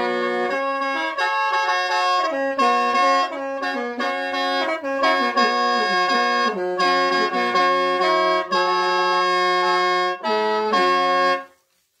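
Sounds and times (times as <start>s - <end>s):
free-reed mouth organ melody: 0.0s - 11.6s.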